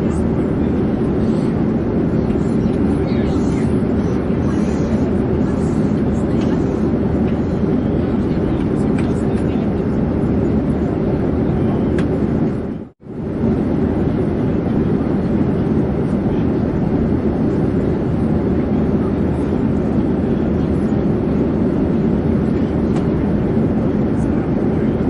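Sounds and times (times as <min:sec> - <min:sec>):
airplane engine drone: 0:00.0 - 0:25.0.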